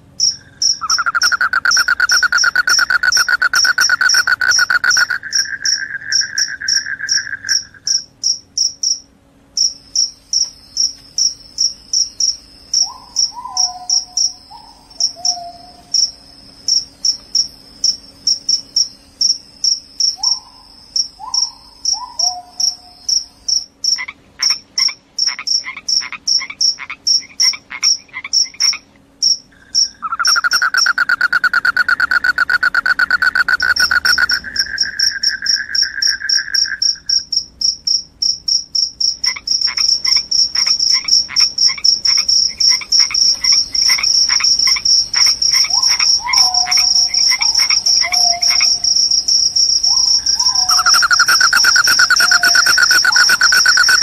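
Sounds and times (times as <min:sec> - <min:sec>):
cricket chirping: 0:00.0 - 0:54.0
cricket continuous trill: 0:00.0 - 0:54.0
pulsed cricket trill: 0:00.0 - 0:54.0.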